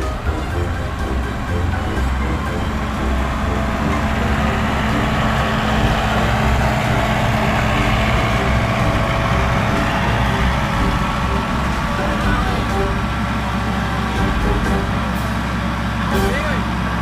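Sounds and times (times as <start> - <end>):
heavy diesel engine throbbing: 0.0 - 17.0.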